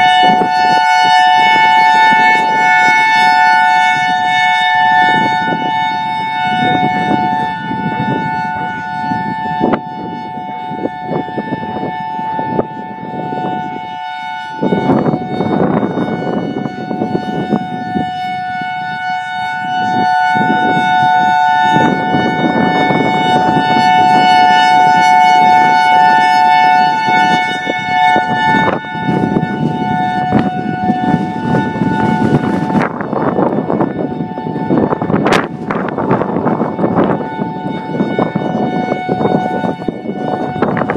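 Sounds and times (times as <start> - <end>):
dual-tone electronic siren: 0.0 - 40.9.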